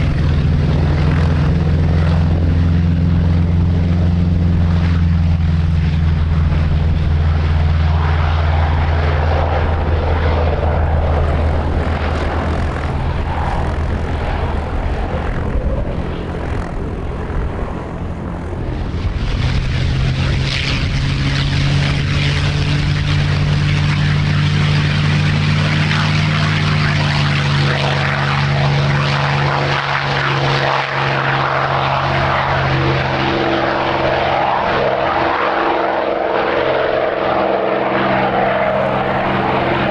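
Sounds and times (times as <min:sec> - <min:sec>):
propeller plane piston engines: 0:00.0 - 0:39.9.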